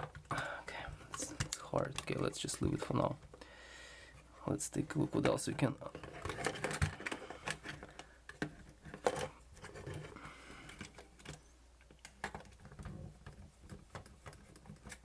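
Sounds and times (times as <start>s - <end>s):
plastic parts clicking and knocking: 1.1s - 3.4s, 4.7s - 15.0s.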